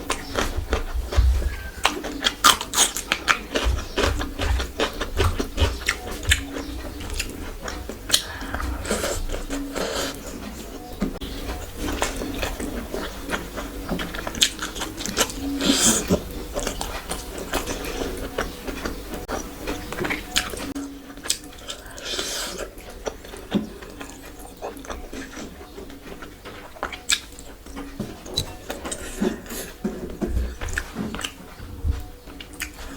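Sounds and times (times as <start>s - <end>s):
person chewing and biting: 0.0s - 32.9s.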